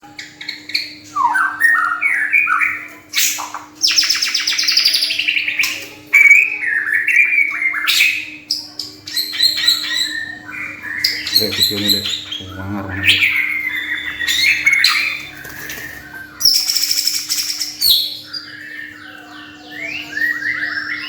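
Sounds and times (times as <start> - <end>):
bird singing: 0.0 - 21.0.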